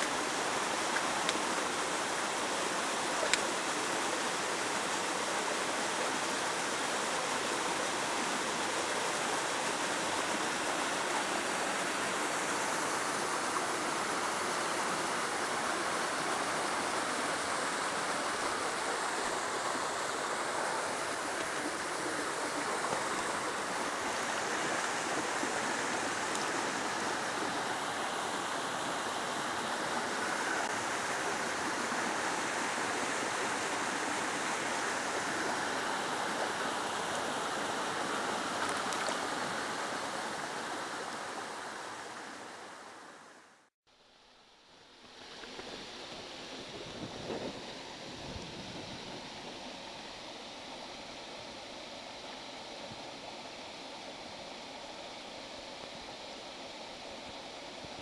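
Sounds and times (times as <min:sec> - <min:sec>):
stream and waterfall rushing: 0:00.0 - 0:58.0.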